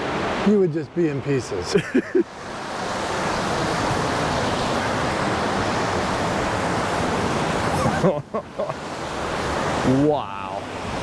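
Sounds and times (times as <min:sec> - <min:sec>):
white water rushing over rock: 0:00.0 - 0:11.0.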